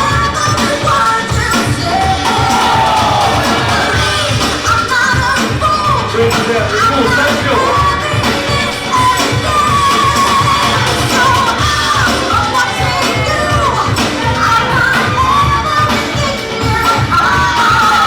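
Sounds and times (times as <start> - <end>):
steady bass beat: 0.0 - 15.9
person singing: 0.0 - 18.0.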